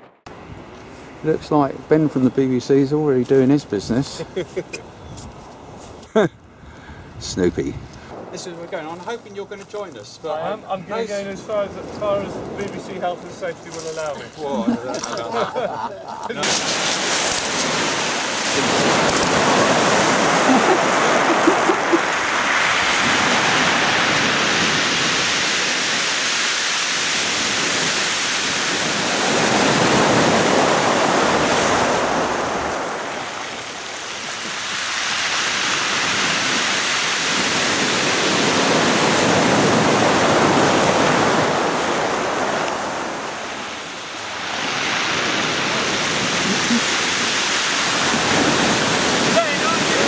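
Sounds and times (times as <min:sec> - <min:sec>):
surf breaking on a beach: 0:00.0 - 0:04.5, 0:08.1 - 0:50.0.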